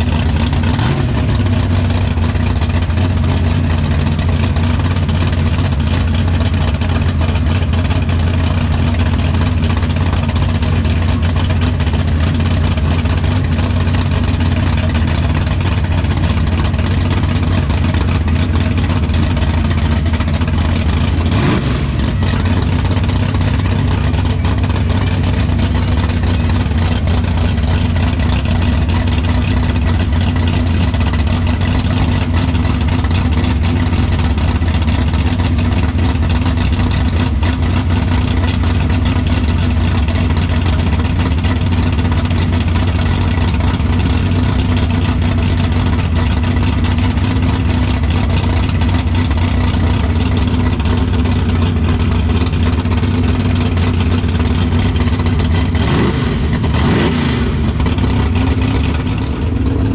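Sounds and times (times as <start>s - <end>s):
vehicle engine low rumble: 0.0s - 59.9s.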